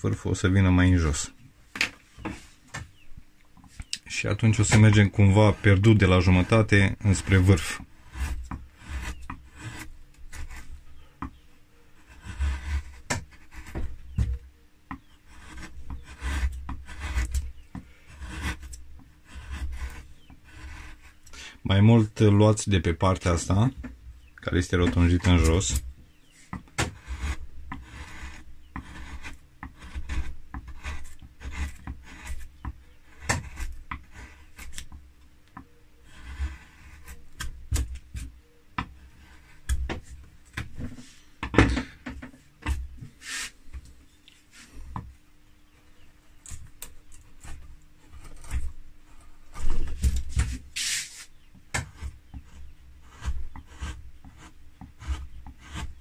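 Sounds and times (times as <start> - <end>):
carving gouge scraping wood: 3.6 - 21.7, 23.1 - 35.0, 35.6 - 41.1, 46.0 - 56.0.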